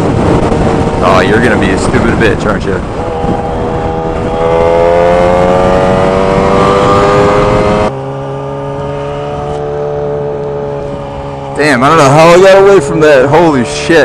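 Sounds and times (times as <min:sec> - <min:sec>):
motorcycle engine pulling hard: 0:00.0 - 0:14.0
wind rush: 0:00.0 - 0:14.0.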